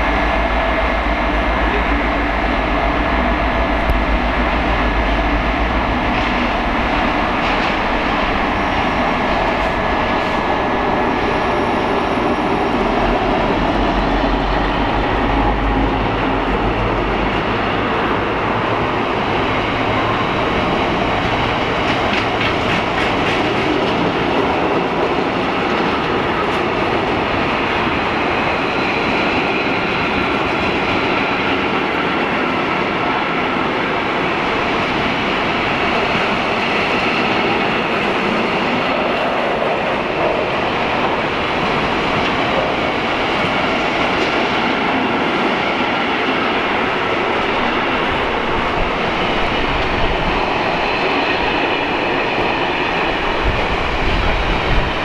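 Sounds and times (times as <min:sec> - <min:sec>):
diesel locomotive engine rumbling: 0:00.0 - 0:55.0
train wagons rushing past: 0:00.0 - 0:55.0.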